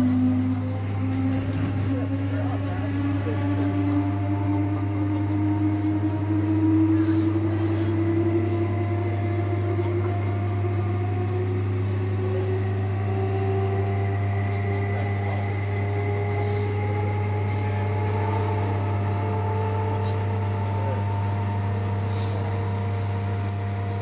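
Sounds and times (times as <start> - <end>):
traction motor whine: 0.0 - 24.0
train interior low hum: 0.0 - 24.0.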